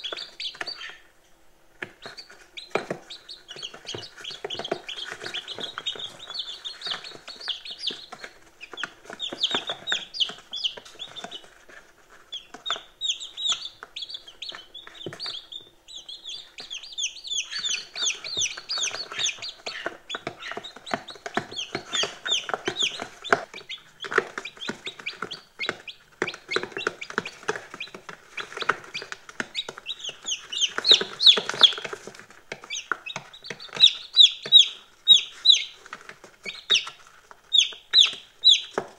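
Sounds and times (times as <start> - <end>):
beaks pecking on plastic: 0.0 - 1.0, 1.8 - 38.9
chicks peeping: 0.0 - 38.9.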